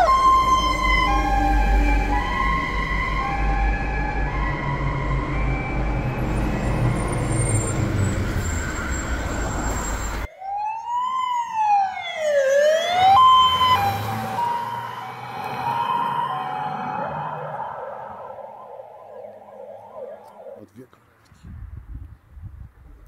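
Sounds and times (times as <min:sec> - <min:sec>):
emergency vehicle siren wailing: 0:00.0 - 0:20.7
fire engine two-tone siren: 0:00.0 - 0:20.7.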